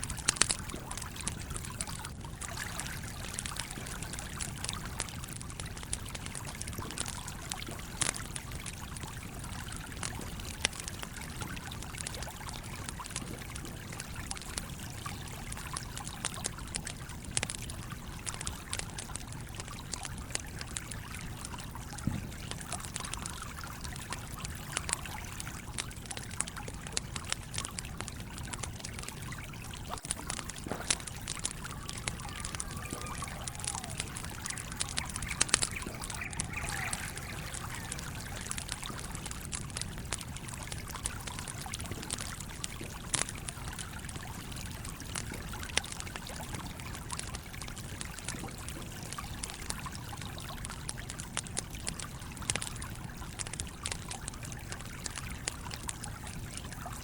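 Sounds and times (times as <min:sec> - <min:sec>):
stream flowing: 0:00.0 - 0:48.7
campfire crackling and popping: 0:00.0 - 0:57.0.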